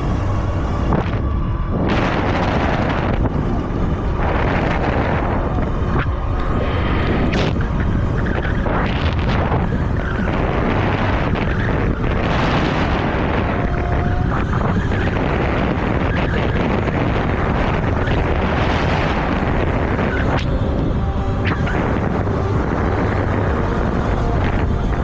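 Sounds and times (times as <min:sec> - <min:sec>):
low rumble: 0:00.0 - 0:25.0
wind buffeting microphone: 0:00.0 - 0:25.0.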